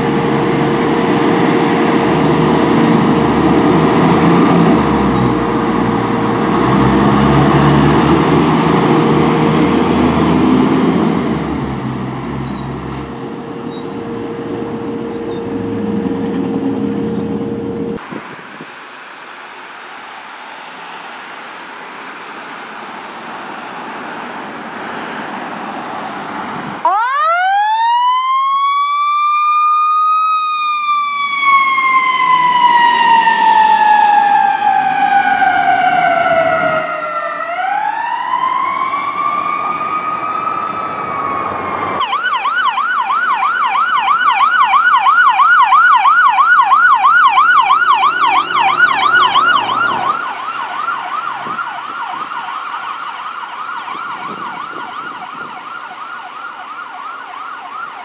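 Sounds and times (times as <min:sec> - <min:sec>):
fire truck siren: 0:00.0 - 0:18.6, 0:22.0 - 0:58.0.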